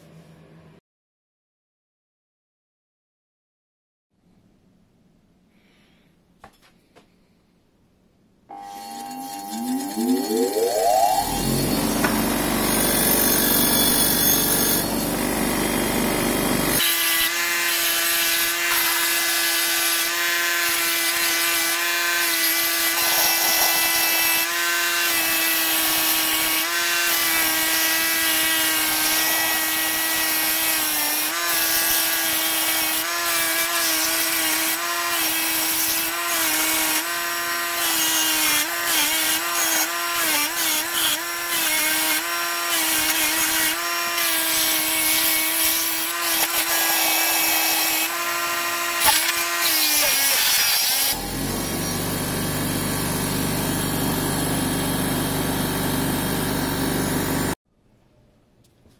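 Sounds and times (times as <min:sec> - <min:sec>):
bench grinder humming: 0:08.5 - 0:57.6.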